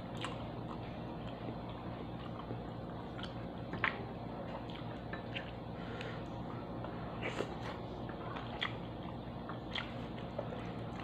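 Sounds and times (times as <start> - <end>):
steady low hum: 0.0 - 11.0
faint chewing: 0.1 - 11.0.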